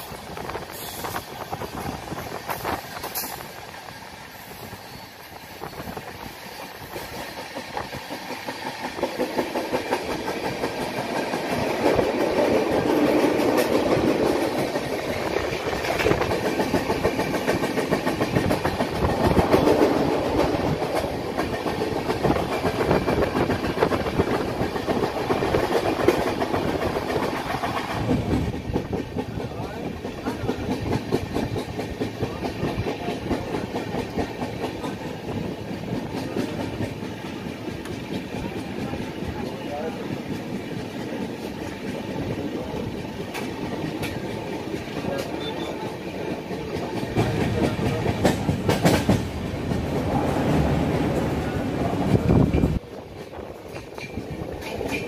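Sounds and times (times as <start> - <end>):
train wheels rumbling and clattering: 0.0 - 55.0.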